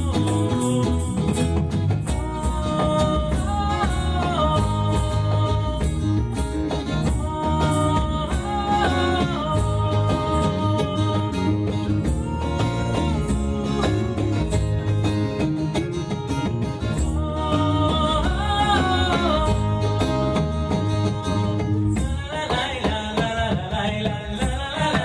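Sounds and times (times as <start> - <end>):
electric bass: 0.0 - 25.0
frame drum beating: 0.0 - 25.0
strummed acoustic guitar: 0.0 - 25.0.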